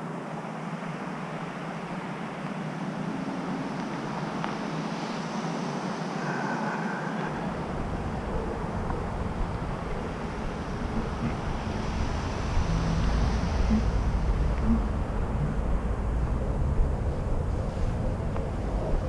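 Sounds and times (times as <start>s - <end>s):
low traffic rumble: 0.0s - 19.0s
road traffic hiss: 0.0s - 19.0s.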